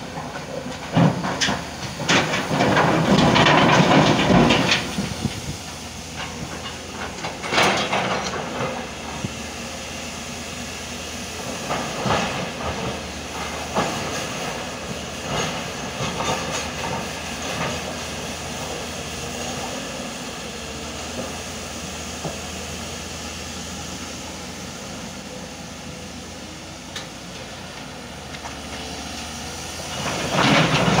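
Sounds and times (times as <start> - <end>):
diesel engines running: 0.0 - 31.0.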